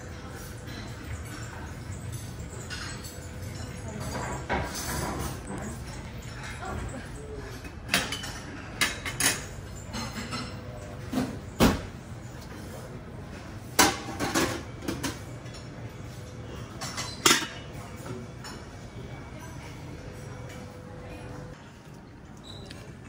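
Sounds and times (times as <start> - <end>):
dishes and cutlery clinking: 0.0 - 23.0.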